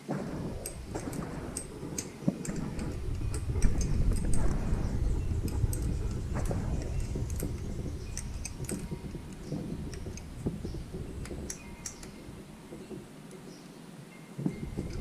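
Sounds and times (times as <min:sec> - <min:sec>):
low rumble: 0:00.0 - 0:12.8
metallic clinks of hand tools: 0:00.5 - 0:12.8.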